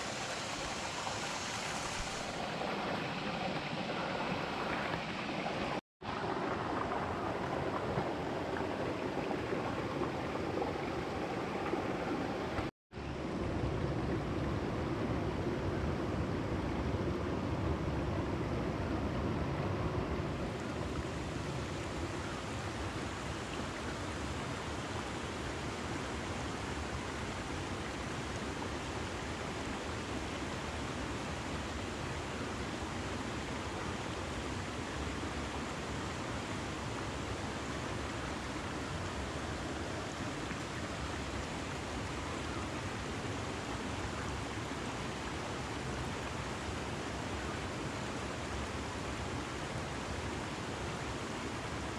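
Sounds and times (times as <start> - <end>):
stream flowing over rocks: 0.0 - 12.7, 20.5 - 51.9.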